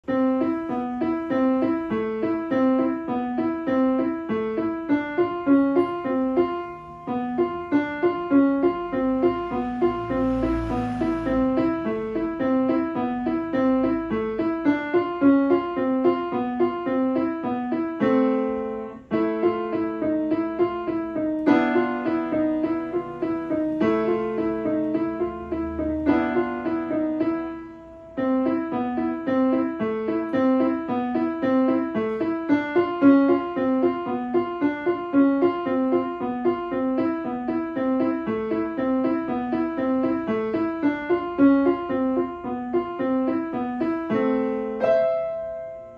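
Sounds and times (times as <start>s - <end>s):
grand piano playing: 0.0s - 45.9s.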